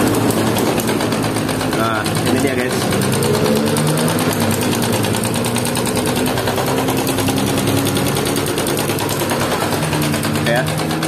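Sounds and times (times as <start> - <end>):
fast engine clatter: 0.0 - 11.0
motorcycle engine running: 0.0 - 11.0.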